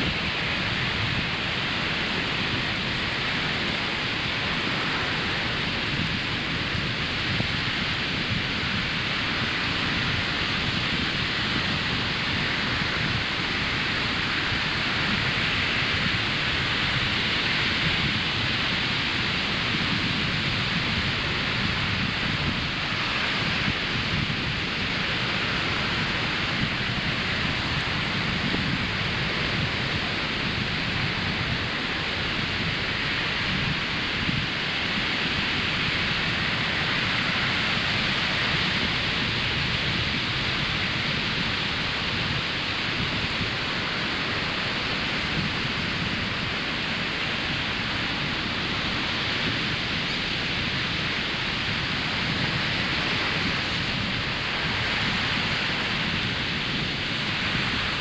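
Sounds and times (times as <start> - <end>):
ocean surf on beach: 0.0 - 58.0.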